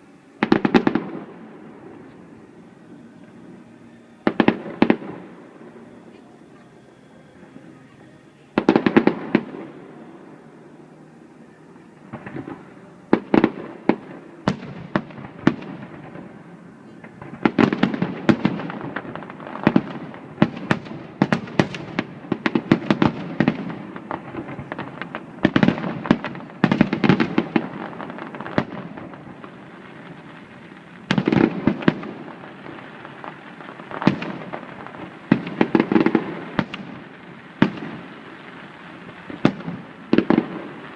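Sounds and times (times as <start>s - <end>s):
fireworks bursting: 0.0s - 40.9s.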